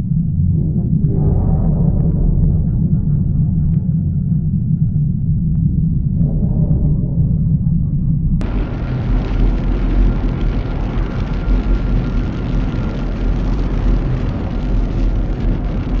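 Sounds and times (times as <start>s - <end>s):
loud steady rumbling: 0.0s - 16.0s.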